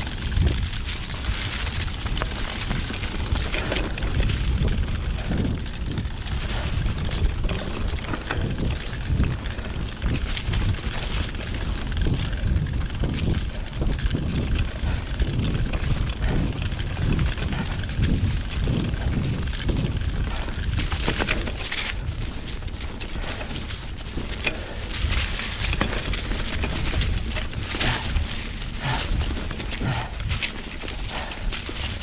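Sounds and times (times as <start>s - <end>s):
bike rattling over bumps: 0.0s - 32.0s
bike tyres crunching through leaves: 0.0s - 32.0s
wind on microphone: 0.0s - 32.0s.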